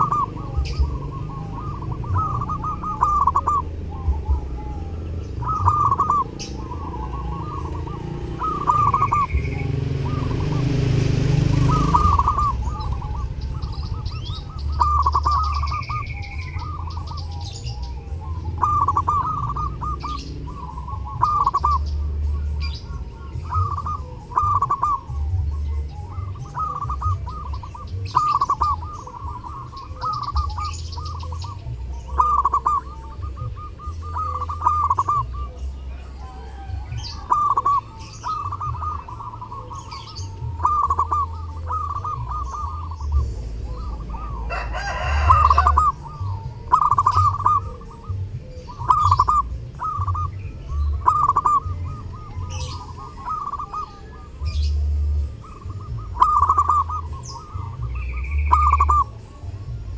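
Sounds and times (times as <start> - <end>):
dove cooing: 0.0 - 59.9
small birds chirping: 0.0 - 59.9.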